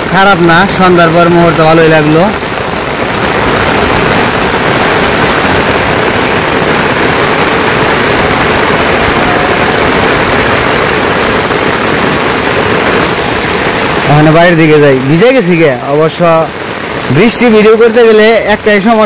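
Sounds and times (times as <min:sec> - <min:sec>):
heavy rain falling: 0:00.0 - 0:19.0
strong wind rumbling: 0:00.0 - 0:19.0.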